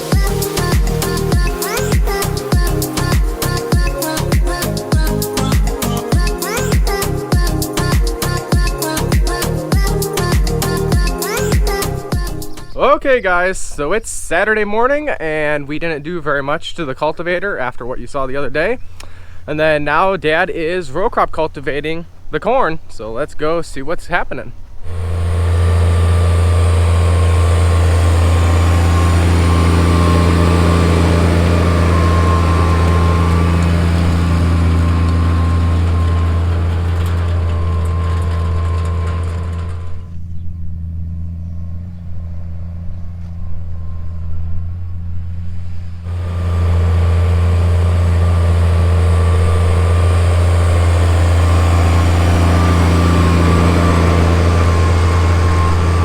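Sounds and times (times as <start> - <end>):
tractor engine running: 0.0 - 13.9, 24.8 - 56.0.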